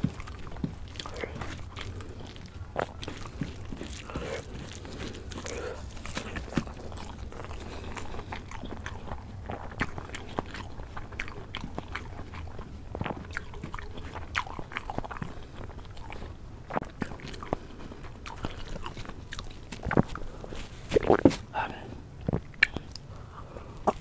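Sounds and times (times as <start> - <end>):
person chewing with wet smacks: 0.0 - 24.0.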